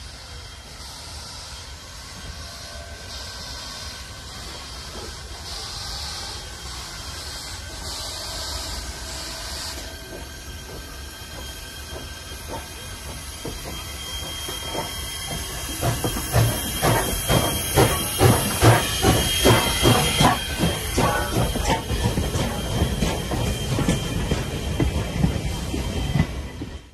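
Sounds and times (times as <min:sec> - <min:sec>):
steam hiss: 0:00.0 - 0:26.9
steam locomotive exhaust chuffs: 0:00.0 - 0:26.9.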